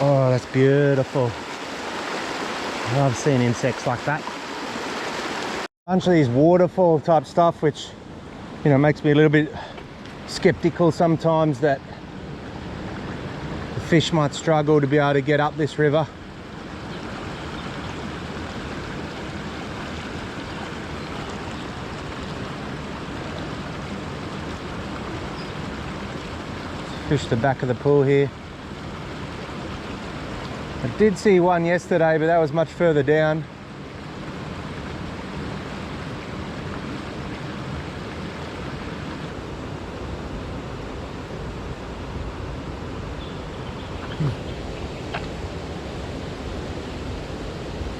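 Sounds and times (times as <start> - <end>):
river water rushing: 0.0 - 6.6, 7.9 - 47.9.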